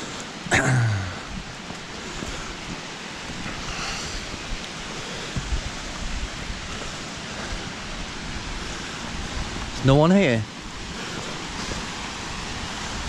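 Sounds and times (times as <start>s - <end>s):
waterfall rushing: 0.0s - 13.0s
wind buffeting microphone: 1.1s - 13.0s.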